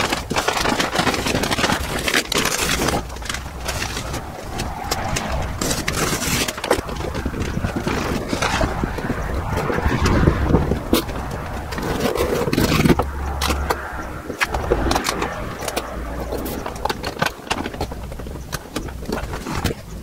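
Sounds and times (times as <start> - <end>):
paper crinkling and rustling: 0.0 - 20.0
sharp clicks and scrapes: 0.0 - 20.0.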